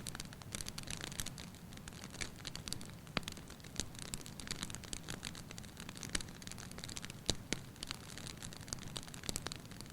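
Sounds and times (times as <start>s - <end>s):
wood fire crackling and popping: 0.0s - 9.9s.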